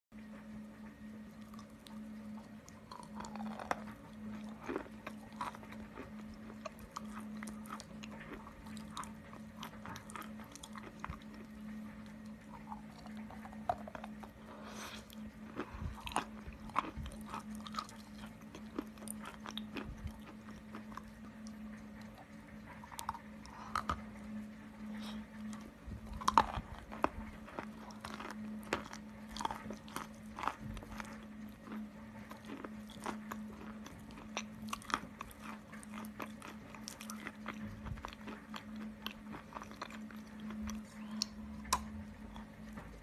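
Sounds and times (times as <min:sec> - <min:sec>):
low hum: 0:00.1 - 0:43.0.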